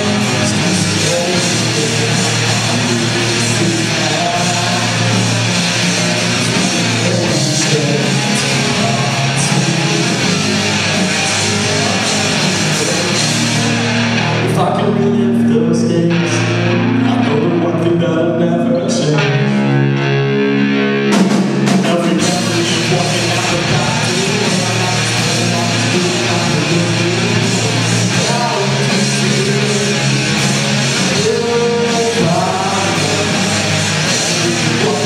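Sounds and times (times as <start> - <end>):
loud rock music with electric guitar: 0.0 - 35.0.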